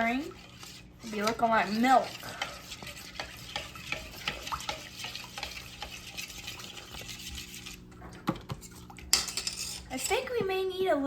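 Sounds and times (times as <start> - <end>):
spoon stirring thick slime: 0.0 - 10.5.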